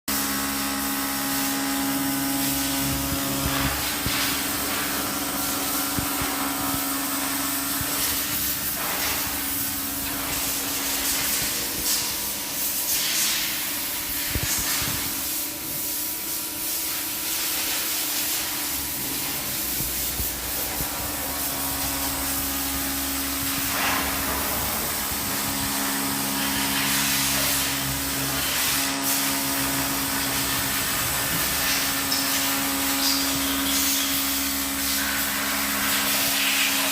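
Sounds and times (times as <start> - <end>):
cutter hissing on steel: 0.3 - 36.9.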